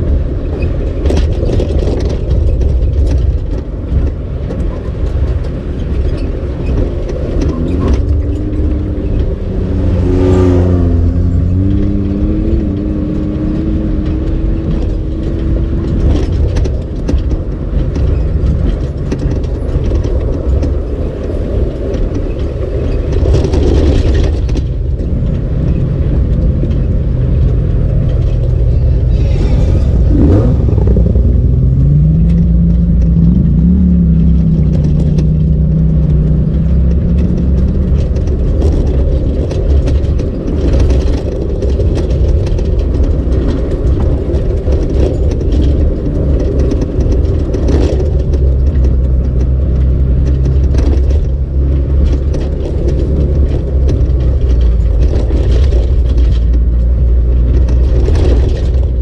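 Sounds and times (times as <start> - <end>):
engine drone inside vehicle: 0.0 - 59.0
tyres and body knocking and rattling: 0.0 - 59.0.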